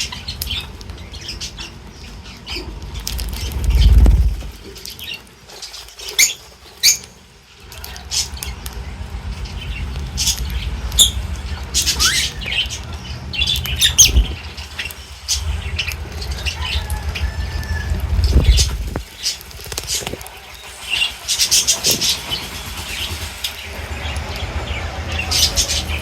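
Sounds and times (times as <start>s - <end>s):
steady low rumble: 0.0s - 4.8s, 7.5s - 26.0s
birds squawking and chirping: 0.0s - 26.0s.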